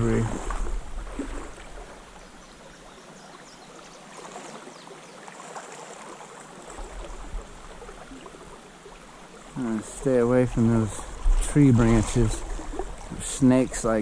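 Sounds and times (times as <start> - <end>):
river water flowing over rocks: 0.0 - 14.0.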